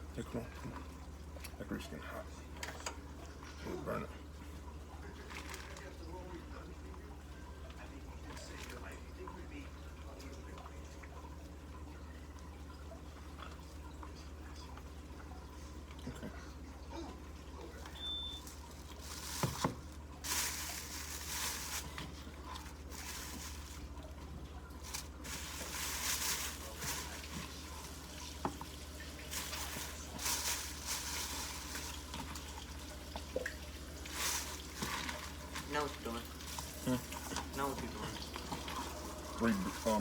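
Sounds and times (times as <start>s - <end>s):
kitchen tap running: 5.8s - 40.0s.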